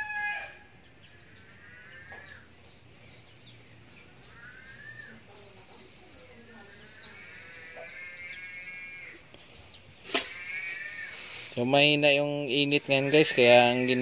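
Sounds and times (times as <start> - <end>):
distant farm animals calling: 0.0 - 14.0
small birds chirping: 0.0 - 14.0.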